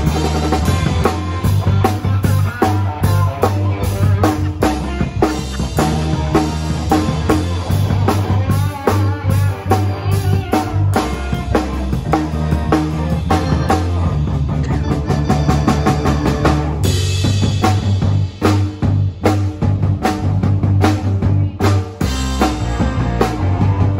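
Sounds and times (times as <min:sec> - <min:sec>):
drum kit beat: 0:00.0 - 0:23.9
electric guitars: 0:00.0 - 0:23.9.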